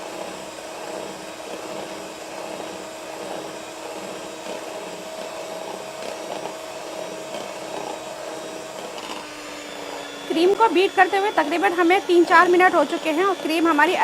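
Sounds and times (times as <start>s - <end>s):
electric mixer whining: 0.0s - 14.0s.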